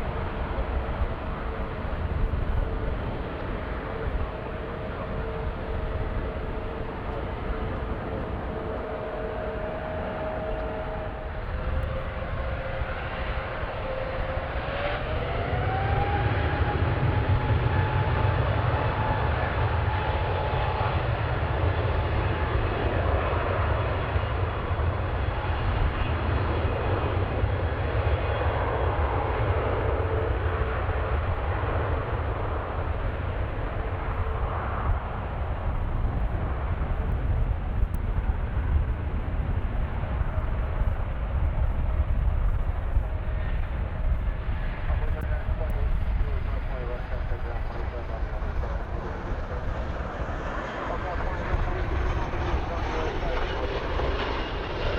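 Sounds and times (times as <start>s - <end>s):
aircraft engines rumbling: 0.0s - 54.9s.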